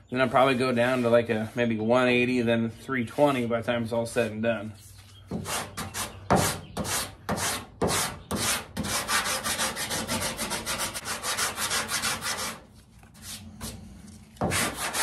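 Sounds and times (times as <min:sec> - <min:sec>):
sandpaper scraping on filler: 0:00.2 - 0:01.8, 0:03.0 - 0:03.6, 0:04.2 - 0:15.0.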